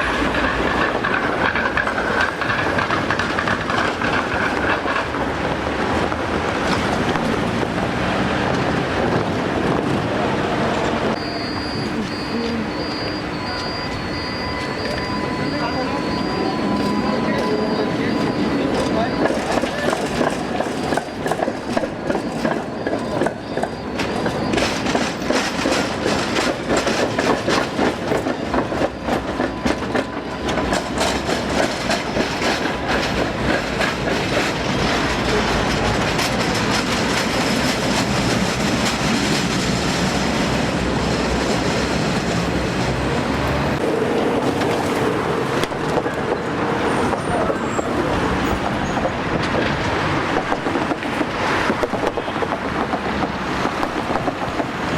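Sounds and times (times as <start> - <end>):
tram wheels clattering on rails: 0.0 - 54.9.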